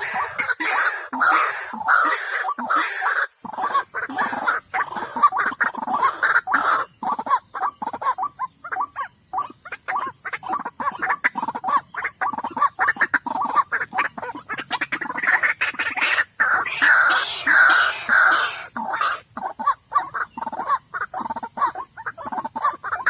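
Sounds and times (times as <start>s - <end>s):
steady high hiss: 0.0s - 23.0s
waterhen croaking calls: 0.0s - 23.0s.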